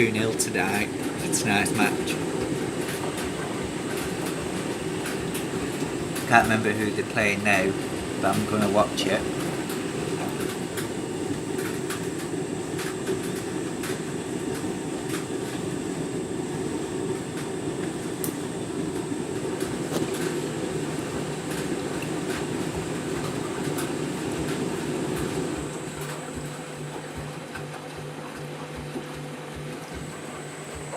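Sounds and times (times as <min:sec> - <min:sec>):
washing machine drum rumbling: 0:00.0 - 0:30.9.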